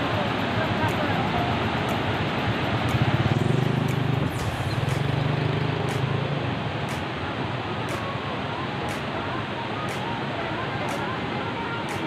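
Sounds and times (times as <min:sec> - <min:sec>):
rapids rushing over rocks: 0:00.0 - 0:12.0.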